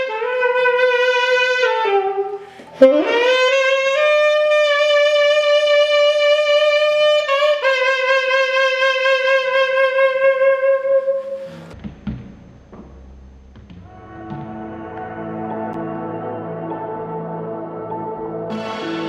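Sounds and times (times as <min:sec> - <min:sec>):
saxophone long held notes: 0:00.0 - 0:11.8, 0:13.8 - 0:19.0.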